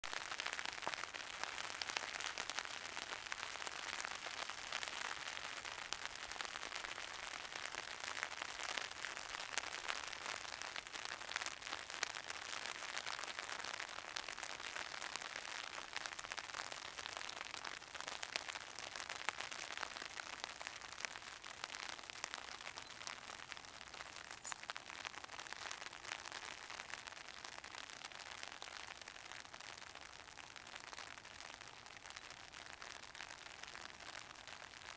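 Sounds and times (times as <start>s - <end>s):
steady rain patter: 0.0s - 34.9s.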